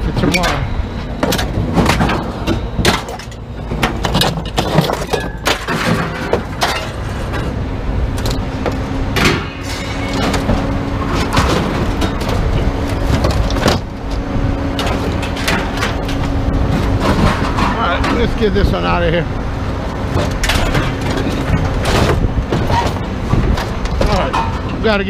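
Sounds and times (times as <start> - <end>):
steady low hum: 0.0 - 25.0
scrap metal clanking: 0.2 - 7.6, 9.1 - 13.9, 14.7 - 18.9, 20.0 - 25.0.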